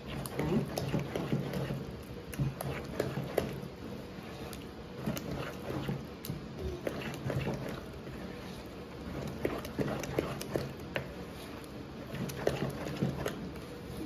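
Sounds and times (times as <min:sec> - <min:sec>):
wooden spoon scraping plastic bowl: 0:00.0 - 0:14.0.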